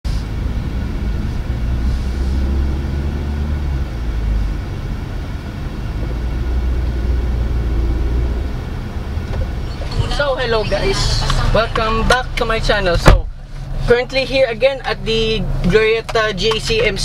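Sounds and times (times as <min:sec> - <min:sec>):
road noise inside moving car: 0:00.0 - 0:17.0.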